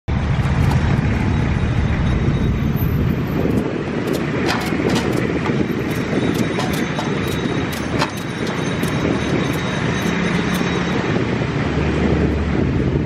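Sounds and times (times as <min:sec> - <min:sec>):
rumble of passing vehicles: 0:00.1 - 0:13.0.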